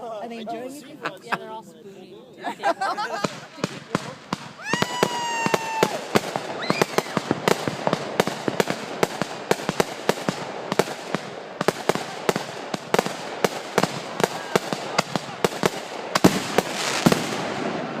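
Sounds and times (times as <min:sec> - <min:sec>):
fireworks crackling: 0:02.7 - 0:18.0
fireworks bangs and pops: 0:03.1 - 0:18.0.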